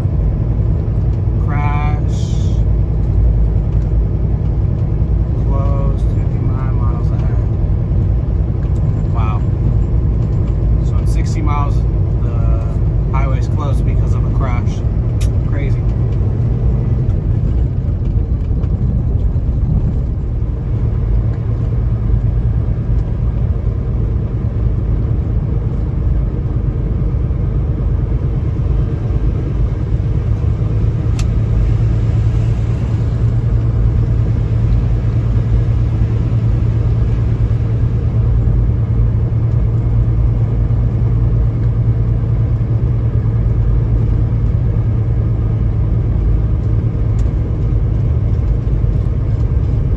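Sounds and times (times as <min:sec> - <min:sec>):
truck diesel engine drone: 0:00.0 - 0:49.9.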